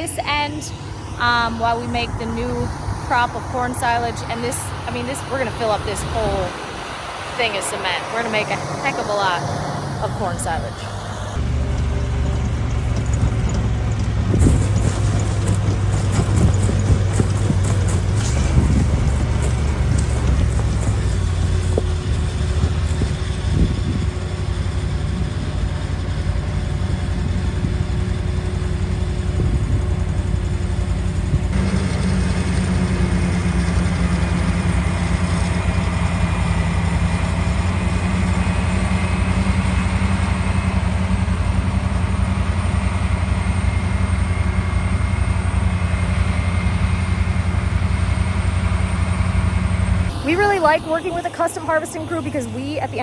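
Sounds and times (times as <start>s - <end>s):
heavy machinery engines running: 0.0s - 53.0s.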